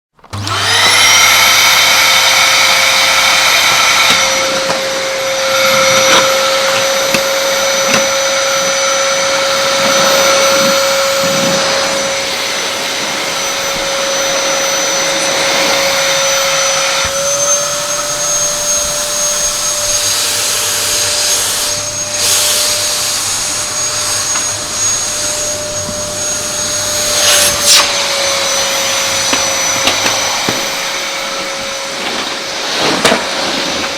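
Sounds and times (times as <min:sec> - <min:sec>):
vacuum cleaner motor whining: 0:00.1 - 0:33.9.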